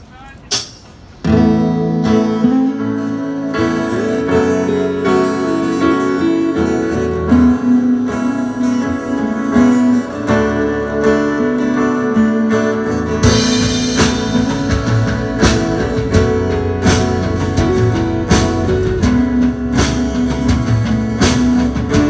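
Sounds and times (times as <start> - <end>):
live guitar-led instrumental music: 0.0 - 22.0.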